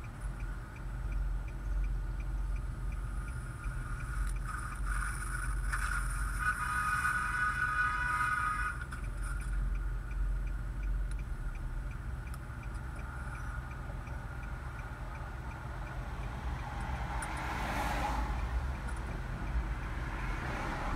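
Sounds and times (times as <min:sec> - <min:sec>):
turn signal clicking: 0:00.0 - 0:17.6
low steady rumble: 0:00.0 - 0:20.9.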